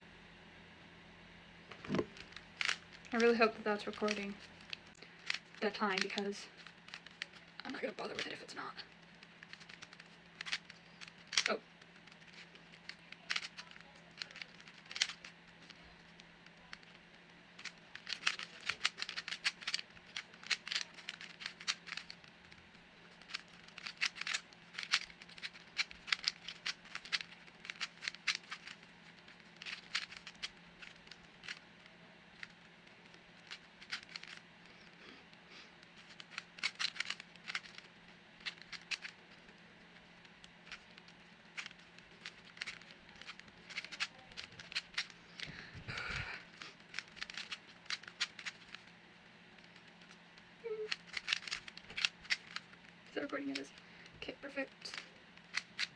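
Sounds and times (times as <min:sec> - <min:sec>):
puzzle cube plastic clicks: 0:01.7 - 0:55.9.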